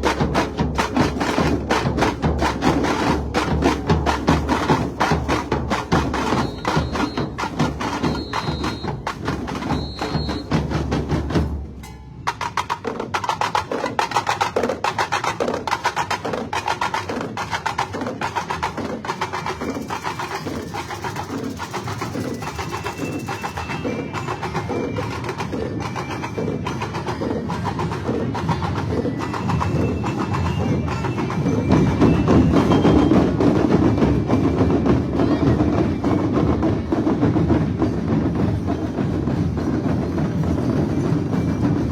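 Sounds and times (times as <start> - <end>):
parade drumming: 0.0 - 41.9.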